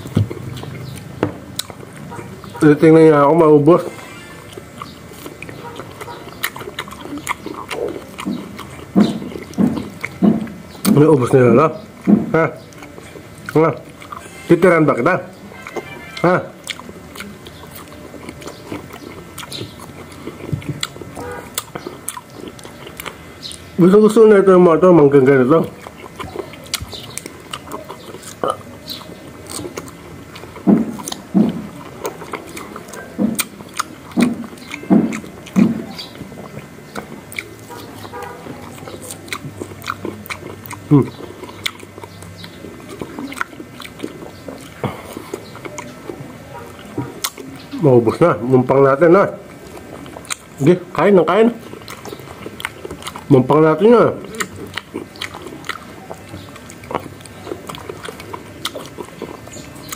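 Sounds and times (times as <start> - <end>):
people chewing mango: 0.0 - 59.9.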